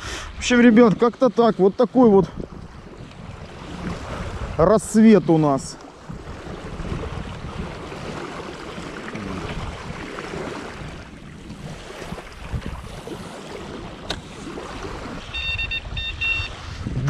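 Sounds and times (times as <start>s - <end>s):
wind buffeting microphone: 2.0s - 5.4s, 6.0s - 17.0s.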